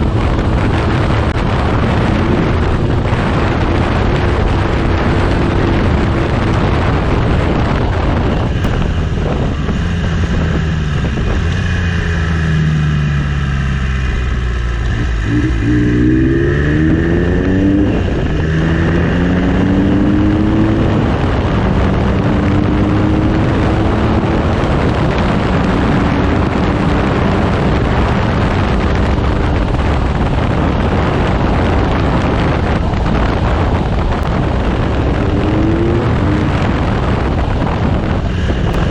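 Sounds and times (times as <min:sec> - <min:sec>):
motorcycle engine accelerating: 0:00.0 - 0:38.9
wind noise on microphone: 0:00.0 - 0:38.9.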